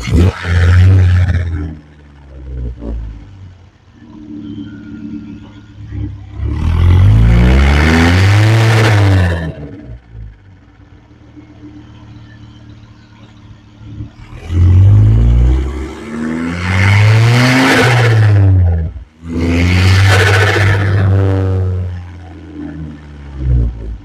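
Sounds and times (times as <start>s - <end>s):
turbocharged car engine accelerating: 0.0s - 24.0s.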